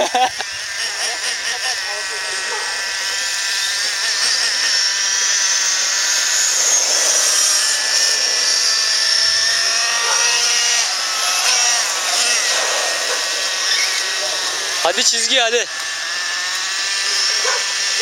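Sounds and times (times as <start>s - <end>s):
rc car electric motors whining: 0.0s - 18.0s.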